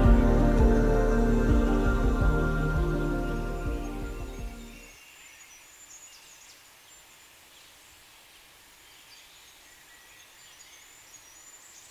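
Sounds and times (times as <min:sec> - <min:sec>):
distant birds chirping: 0:00.0 - 0:11.9.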